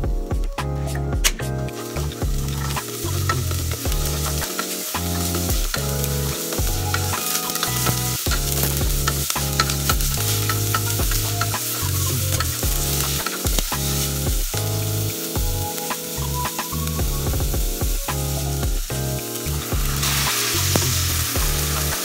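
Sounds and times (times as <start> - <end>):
background music: 0.0 - 22.0
onion and garlic sizzling in oil: 1.7 - 22.0.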